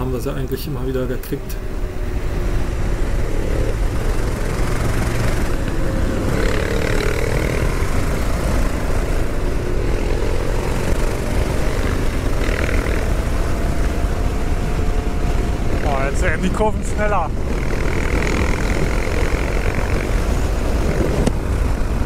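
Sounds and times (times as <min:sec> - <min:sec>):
motorcycle engine at road speed: 0:00.0 - 0:22.0
wind rushing over microphone: 0:00.0 - 0:22.0.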